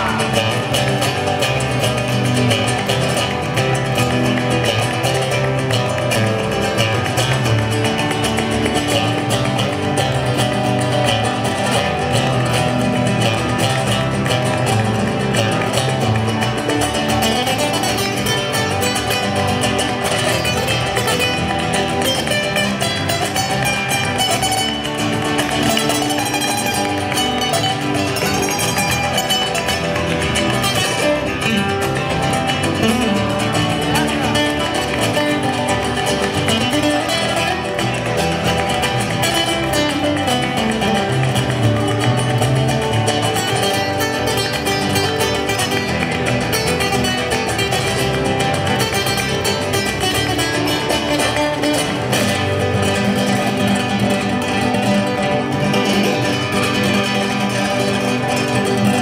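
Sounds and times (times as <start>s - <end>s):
acoustic guitars playing latin tune: 0.0s - 59.0s.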